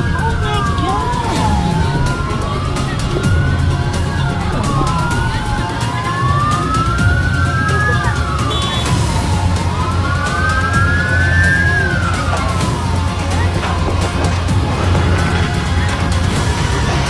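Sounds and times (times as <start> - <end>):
emergency vehicle sirens wailing: 0.0 - 17.0
low rumble: 0.0 - 17.0.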